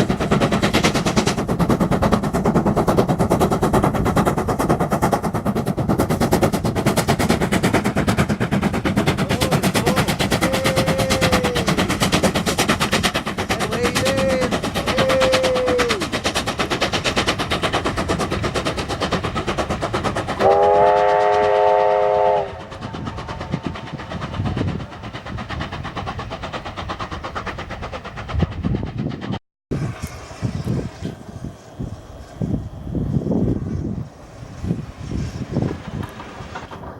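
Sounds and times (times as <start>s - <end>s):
steam locomotive exhaust beats: 0.0s - 36.9s.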